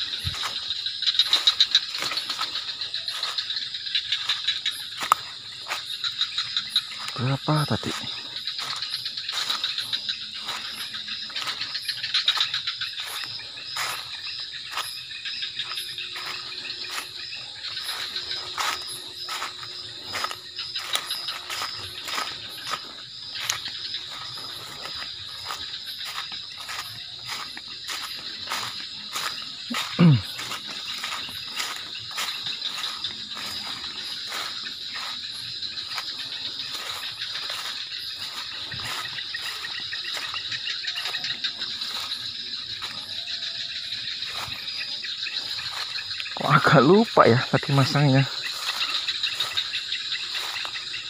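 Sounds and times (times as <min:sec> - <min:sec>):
crickets and insects trilling: 0:00.0 - 0:51.0.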